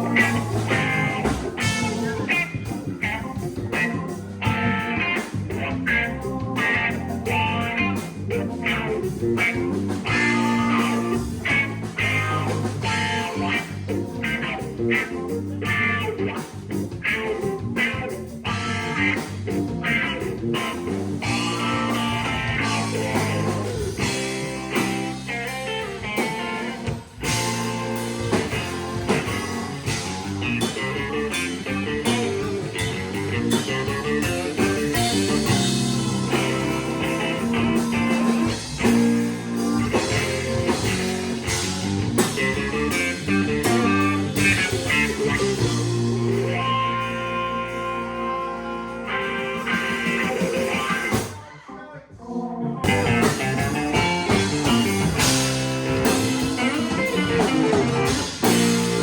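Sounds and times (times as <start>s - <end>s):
blues-rock band music: 0.0s - 51.4s, 52.2s - 59.0s
electric guitar notes: 0.0s - 51.4s, 52.2s - 59.0s
steady drum beat: 0.0s - 51.4s, 52.8s - 59.0s.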